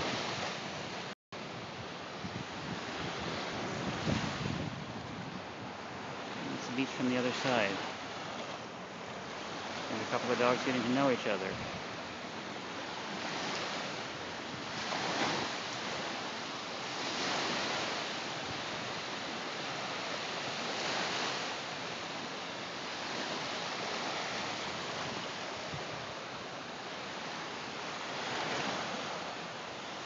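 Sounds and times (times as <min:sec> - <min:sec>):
waves washing on shore: 0:00.0 - 0:30.0.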